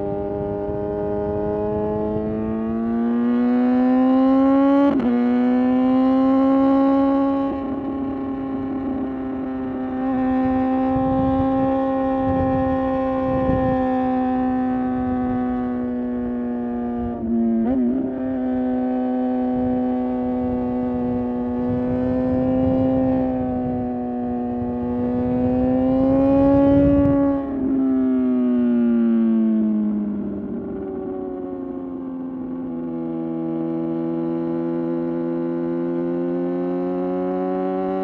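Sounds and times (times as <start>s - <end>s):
motorcycle engine at high revs: 0.0s - 38.0s.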